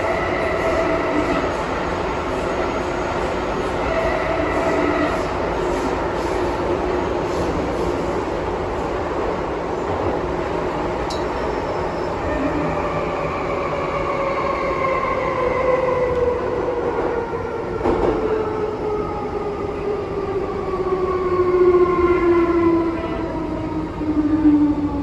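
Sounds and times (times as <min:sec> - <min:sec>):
train running noise: 0:00.0 - 0:21.0
metro train braking whine: 0:00.0 - 0:25.0.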